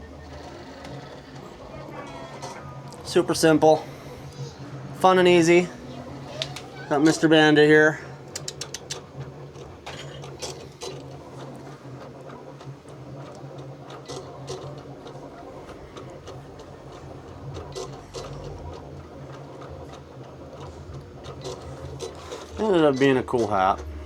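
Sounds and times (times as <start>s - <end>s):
vinyl cutter motors whirring: 0.0s - 24.0s.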